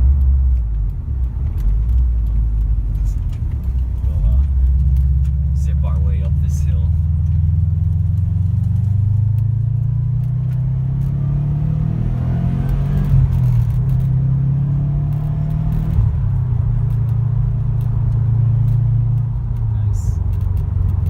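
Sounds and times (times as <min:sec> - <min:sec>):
car engine running under load: 0:00.0 - 0:21.0.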